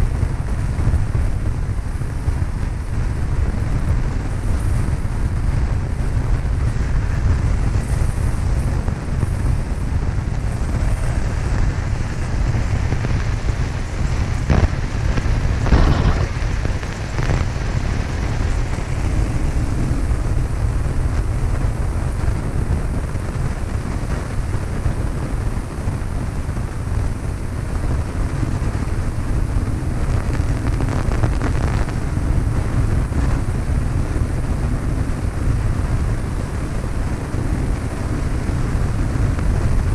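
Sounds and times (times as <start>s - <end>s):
airplane engine and propeller drone: 0.0s - 39.9s
wind rushing over microphone: 0.0s - 39.9s.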